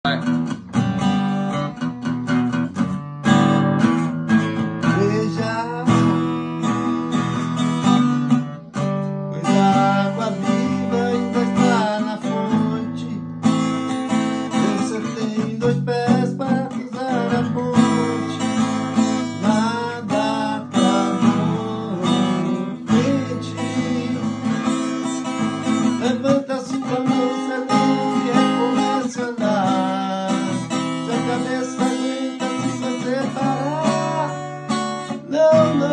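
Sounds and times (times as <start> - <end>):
acoustic guitar playing: 0.0 - 35.9.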